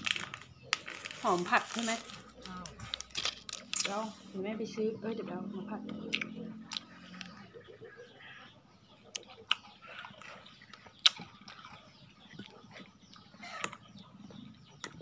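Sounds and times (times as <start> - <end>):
faint chewing: 0.0 - 4.4, 5.9 - 15.0.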